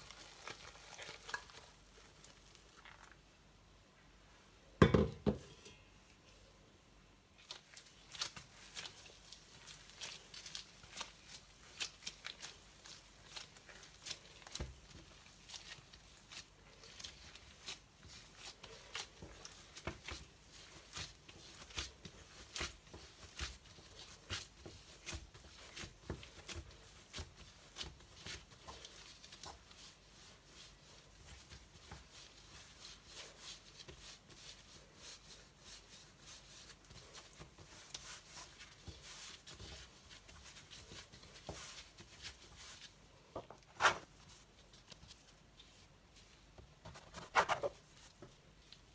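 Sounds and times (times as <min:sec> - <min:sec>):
hands kneading dough: 0:00.0 - 0:48.9.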